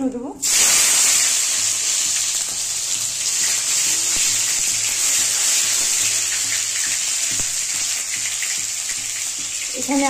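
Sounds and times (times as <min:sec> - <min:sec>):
tomato sizzling in hot oil: 0:00.4 - 0:10.0.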